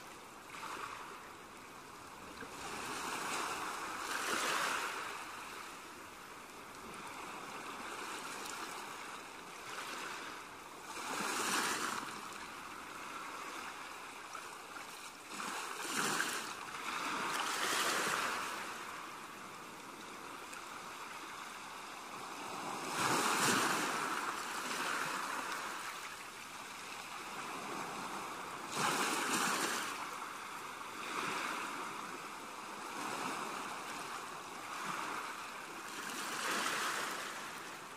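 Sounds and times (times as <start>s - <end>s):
ocean waves washing in: 0.0s - 37.9s.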